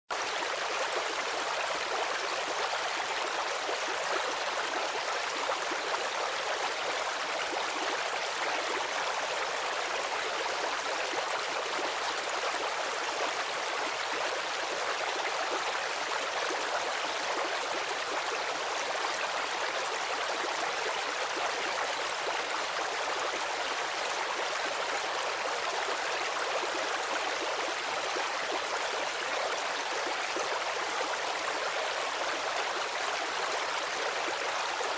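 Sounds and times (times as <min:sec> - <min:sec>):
stream water over stones: 0:00.1 - 0:34.9.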